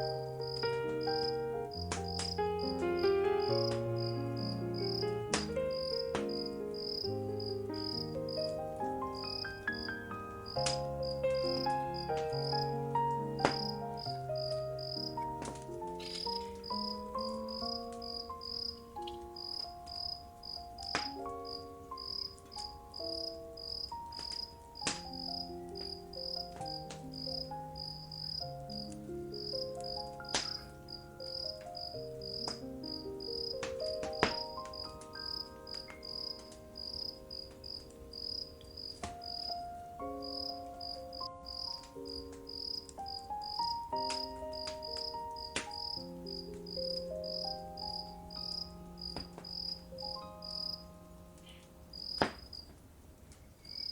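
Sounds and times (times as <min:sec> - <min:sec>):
cricket chirping: 0:00.0 - 0:39.6, 0:40.2 - 0:52.7, 0:53.5 - 0:53.9
soft slow melody: 0:00.0 - 0:53.9
wood fire crackling: 0:00.0 - 0:53.9.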